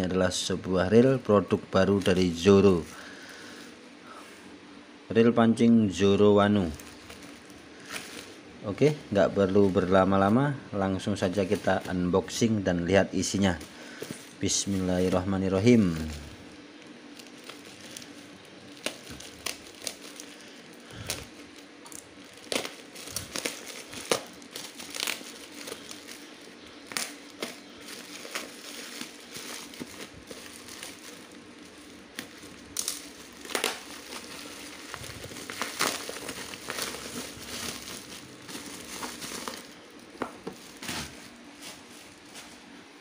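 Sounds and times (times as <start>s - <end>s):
plastic wrapping crinkling and tearing: 1.0s - 3.8s, 6.5s - 10.4s, 11.0s - 12.5s, 13.2s - 42.8s.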